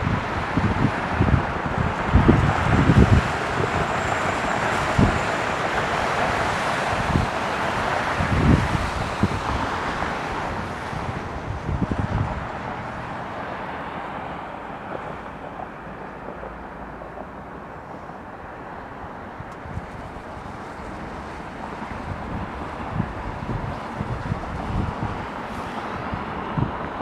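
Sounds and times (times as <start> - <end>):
wind buffeting microphone: 0.0 - 16.5, 17.7 - 27.0.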